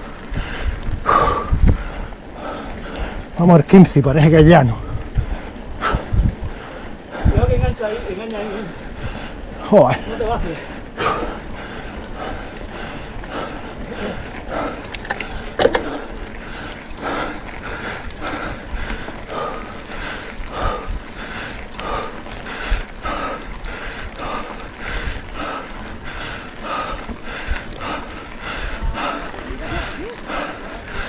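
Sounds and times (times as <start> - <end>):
bicycle tyre and drivetrain noise: 0.0 - 31.0.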